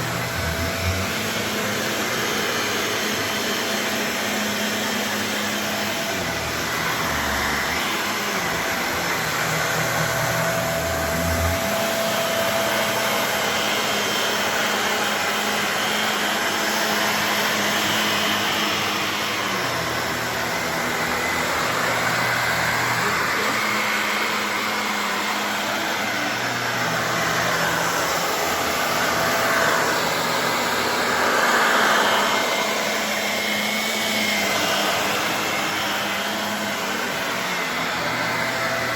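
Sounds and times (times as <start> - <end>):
vacuum cleaner running on rug: 0.0 - 38.9.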